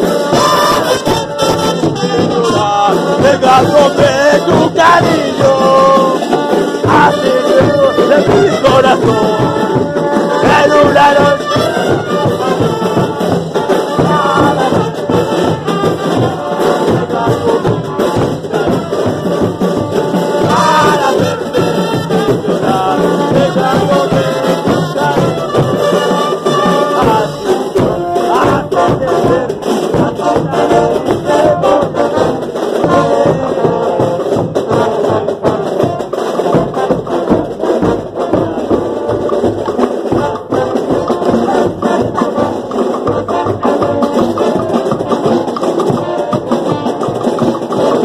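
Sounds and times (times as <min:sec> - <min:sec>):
brass band playing: 0:00.0 - 0:48.0
drums beating steadily: 0:00.0 - 0:48.0.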